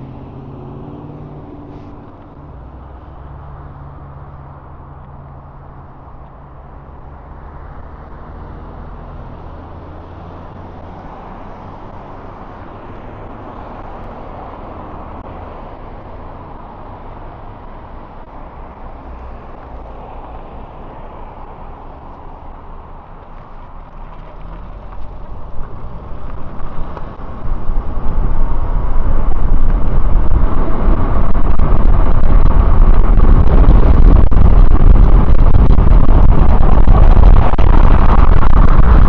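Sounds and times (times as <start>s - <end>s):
highway traffic rushing: 0.0s - 39.0s.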